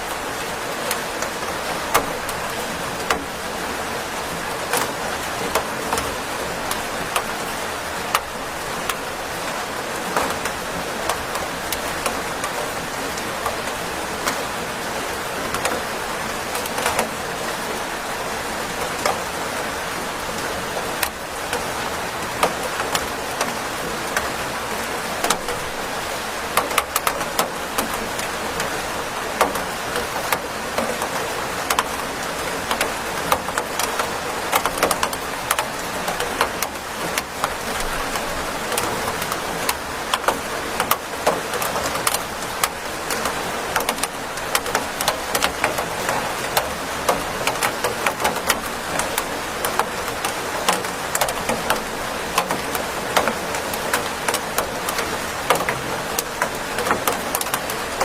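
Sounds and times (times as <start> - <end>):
steady rain hiss: 0.0 - 58.0
raindrops tapping close by: 0.1 - 58.0.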